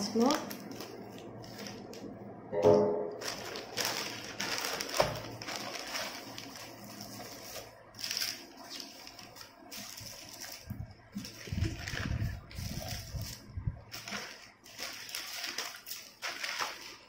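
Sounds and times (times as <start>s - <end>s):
plastic mailer crinkling: 0.0s - 2.1s, 3.2s - 17.0s.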